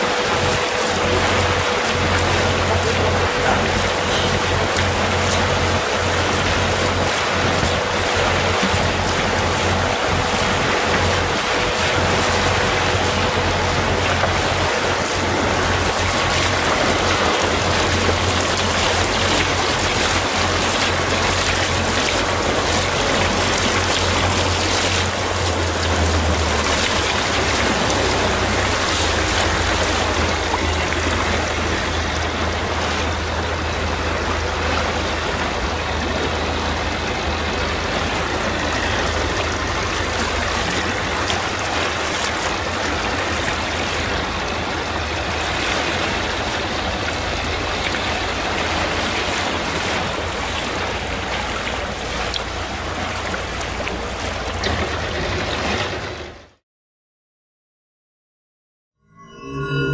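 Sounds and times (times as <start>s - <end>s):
boat engine humming: 0.0s - 56.6s
water rushing along boat hull: 0.0s - 56.6s.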